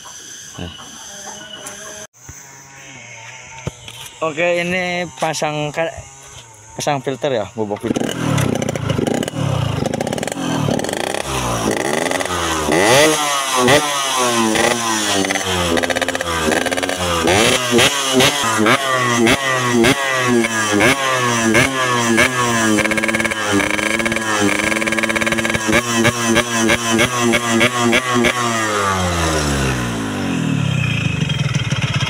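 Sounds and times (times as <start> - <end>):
two-stroke motorcycle engine revving: 3.4 - 32.0.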